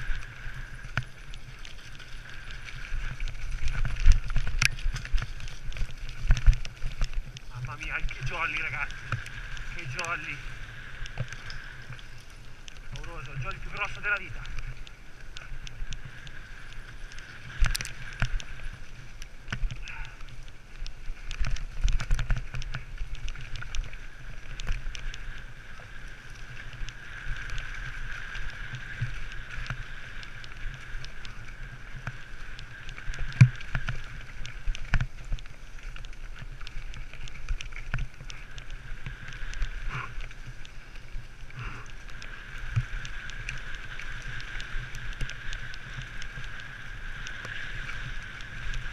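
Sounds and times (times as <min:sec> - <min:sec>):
bike knocking and rattling: 0:00.0 - 0:10.4, 0:17.1 - 0:48.9
bike tyre rumble: 0:00.0 - 0:48.9.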